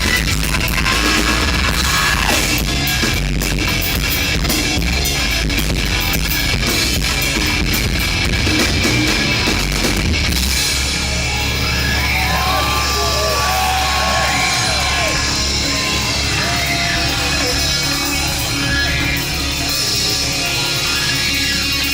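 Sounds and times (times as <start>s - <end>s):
rock band playing: 0.0s - 21.9s.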